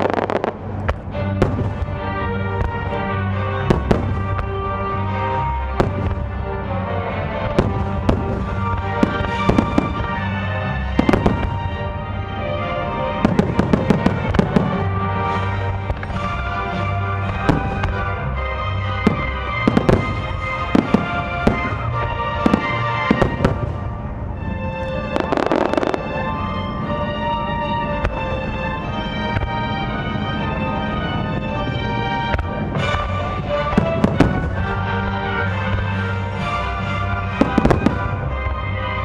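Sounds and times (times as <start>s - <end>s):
fireworks bursting: 0.0s - 38.9s
music: 0.0s - 39.0s.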